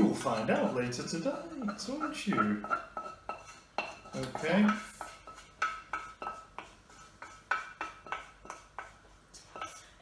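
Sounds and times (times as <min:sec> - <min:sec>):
utensil scraping metal saucepan: 0:00.0 - 0:10.0.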